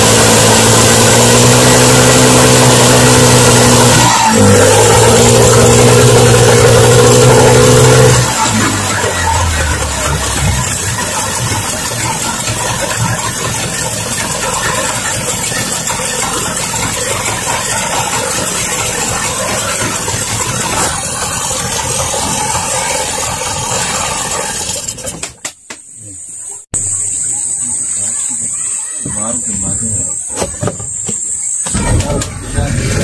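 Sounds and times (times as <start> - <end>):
outboard motor running: 0.0 - 25.4, 29.1 - 33.0.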